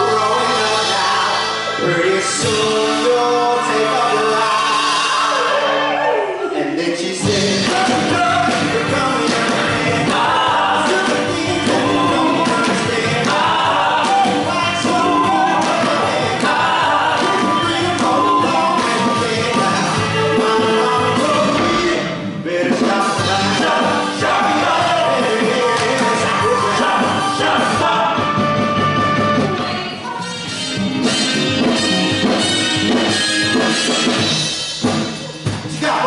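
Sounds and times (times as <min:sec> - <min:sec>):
drums: 0:00.0 - 0:06.0, 0:07.1 - 0:36.0
live band playing: 0:00.0 - 0:06.5, 0:07.2 - 0:36.0
group of singers: 0:00.0 - 0:30.2, 0:35.2 - 0:36.0
bass: 0:00.0 - 0:36.0.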